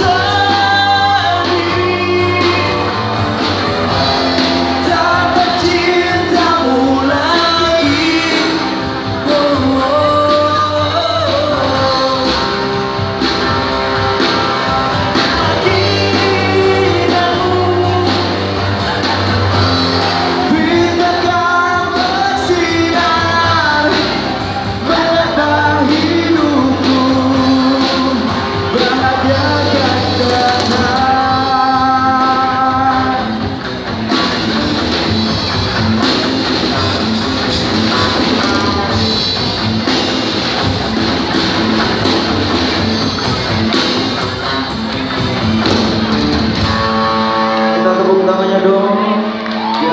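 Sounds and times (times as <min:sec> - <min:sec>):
lead singer: 0:00.0 - 0:49.9
live rock pop band: 0:00.0 - 0:49.9.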